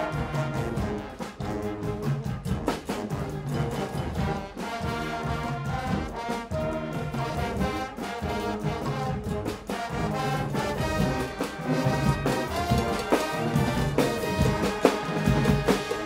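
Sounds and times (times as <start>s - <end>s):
brass horns playing chords: 0.0s - 16.0s
drums and cymbals: 0.0s - 16.0s.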